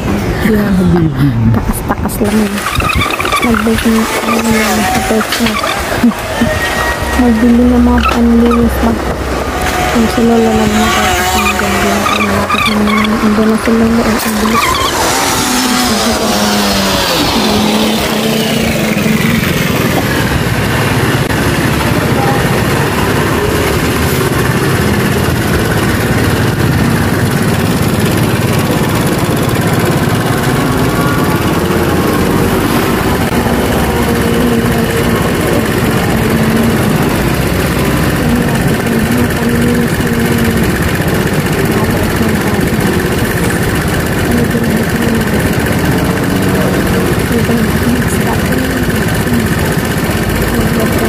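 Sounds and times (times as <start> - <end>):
street traffic: 0.0 - 51.0
engine idling: 2.2 - 51.0.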